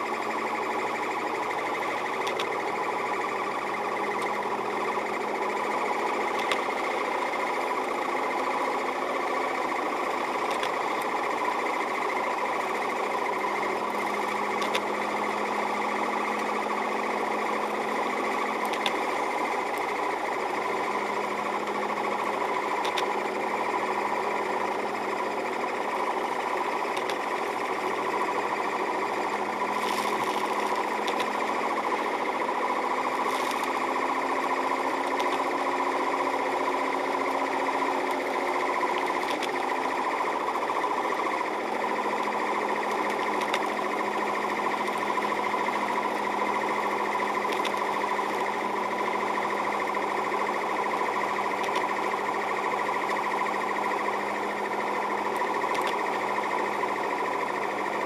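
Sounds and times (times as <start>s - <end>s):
car engine and road drone: 0.0s - 58.0s.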